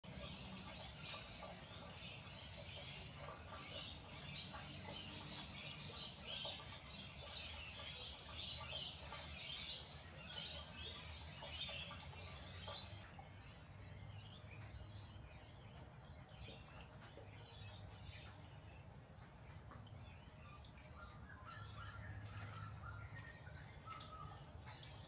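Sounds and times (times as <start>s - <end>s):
low steady hum: 0.0s - 25.0s
small birds chirping: 0.0s - 25.0s.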